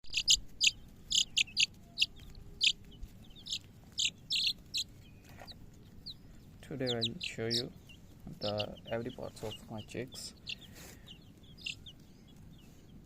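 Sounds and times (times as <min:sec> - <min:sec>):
chicks peeping: 0:00.1 - 0:13.0.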